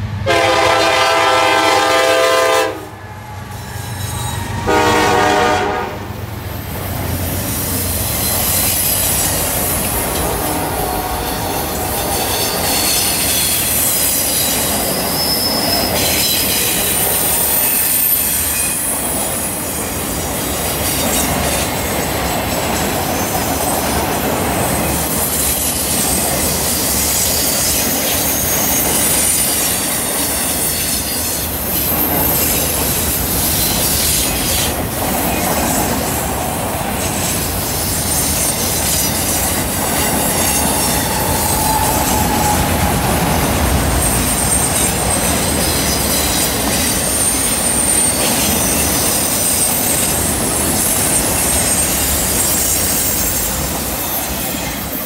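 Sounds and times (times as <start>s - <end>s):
steel wheels rumbling on rail: 0.0s - 55.0s
high wheel squeal: 3.2s - 5.0s, 6.6s - 19.9s, 20.6s - 36.2s, 37.0s - 55.0s.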